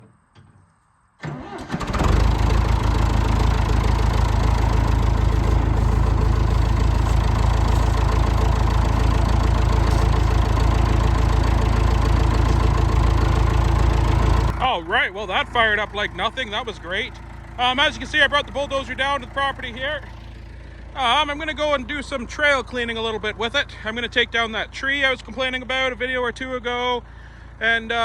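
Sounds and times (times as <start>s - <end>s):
diesel engine cranking: 1.2s - 28.0s
diesel engine idling: 1.2s - 28.0s.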